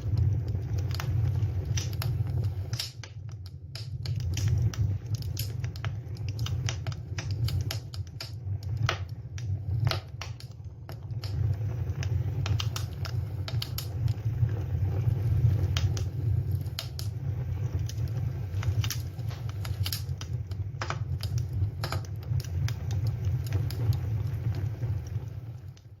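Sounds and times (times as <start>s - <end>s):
campfire crackling and popping: 0.0s - 26.0s
steady low rumble: 0.0s - 26.0s.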